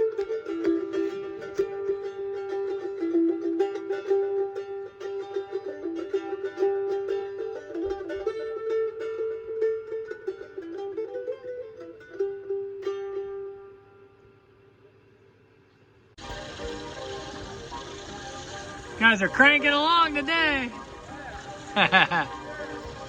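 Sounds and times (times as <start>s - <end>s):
plucked string instrument music: 0.0s - 15.0s, 16.2s - 23.0s.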